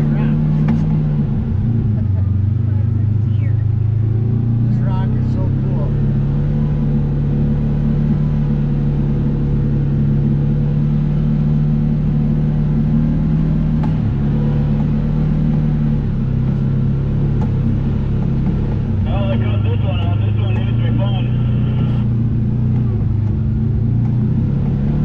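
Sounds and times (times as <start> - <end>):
low road rumble: 0.0 - 25.0
vehicle engine running: 0.0 - 25.0.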